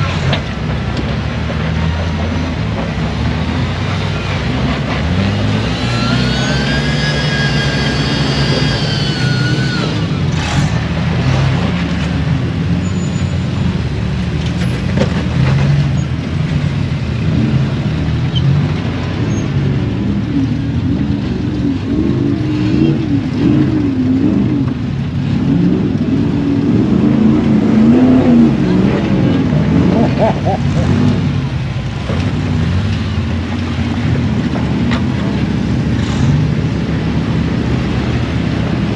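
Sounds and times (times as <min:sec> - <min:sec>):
vehicle engine revving: 0:00.0 - 0:38.9.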